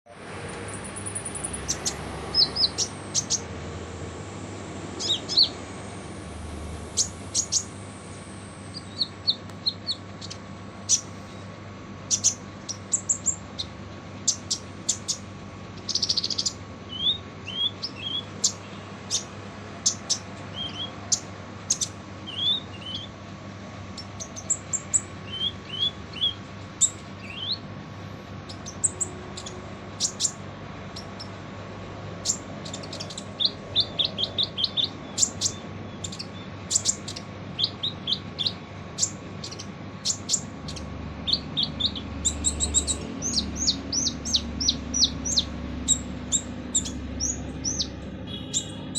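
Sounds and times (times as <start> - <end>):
sunbird singing high chips: 0.1 - 31.4, 32.2 - 48.9
faint steady hum: 0.1 - 48.9.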